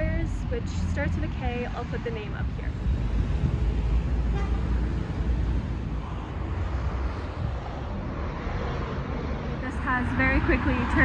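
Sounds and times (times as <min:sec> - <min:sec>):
cars passing on busy road: 0:00.0 - 0:11.0.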